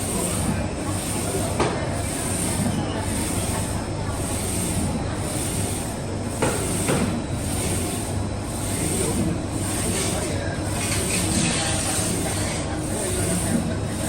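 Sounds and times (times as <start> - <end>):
print carriage swishing: 0.0 - 14.0
printer hum and hiss: 0.0 - 14.0.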